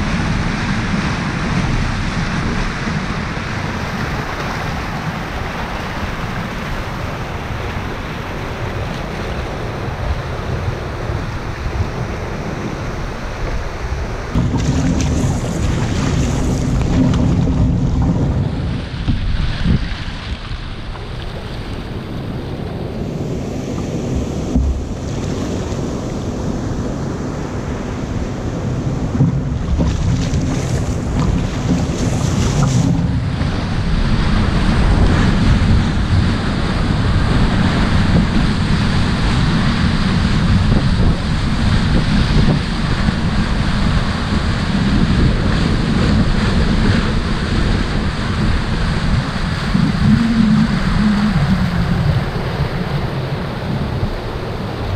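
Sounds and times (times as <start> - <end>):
whitewater rushing: 0.0 - 54.9
wind buffeting microphone: 0.0 - 54.9.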